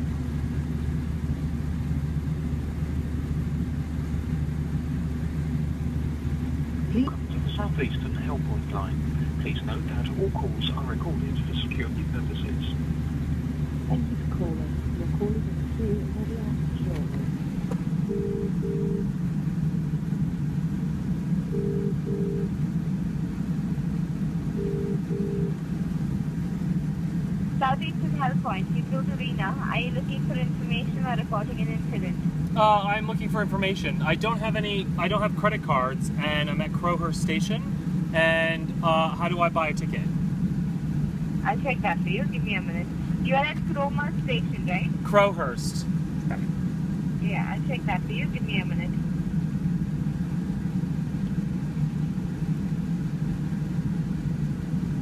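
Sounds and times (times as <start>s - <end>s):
steady low hum: 0.0s - 55.0s
steady low rumble: 0.0s - 55.0s.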